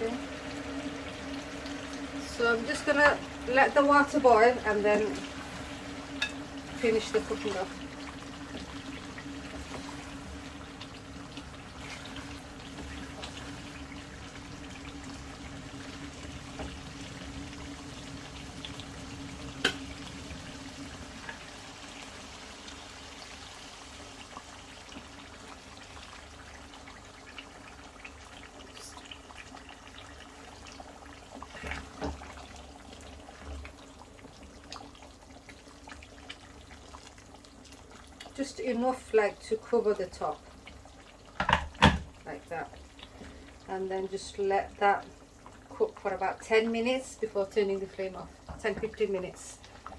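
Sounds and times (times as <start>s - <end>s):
curry cooking in a pan: 0.0s - 49.9s.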